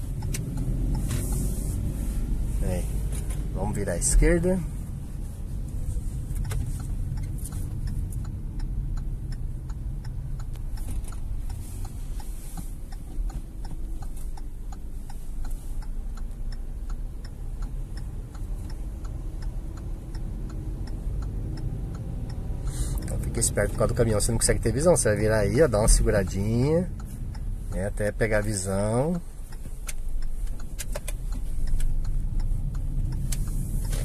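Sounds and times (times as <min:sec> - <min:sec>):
low engine and road rumble: 0:00.0 - 0:34.0
turn signal ticking: 0:00.0 - 0:34.0.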